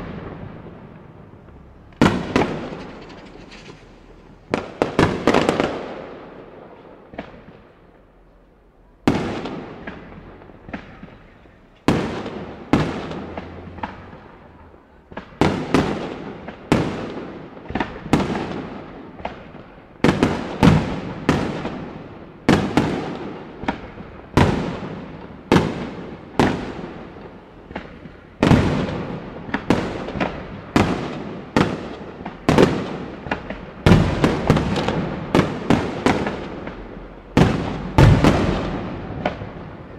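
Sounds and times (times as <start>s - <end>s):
fireworks bursting with echoing rumble: 0.0s - 8.2s, 9.0s - 39.9s.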